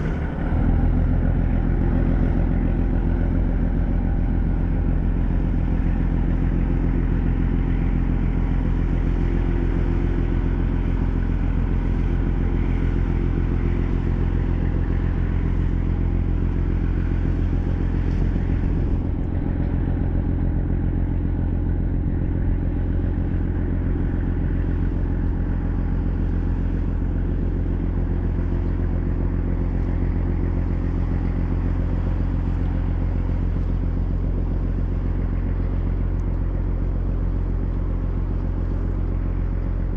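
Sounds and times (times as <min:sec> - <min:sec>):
ship diesel engine drone: 0:00.0 - 0:39.9.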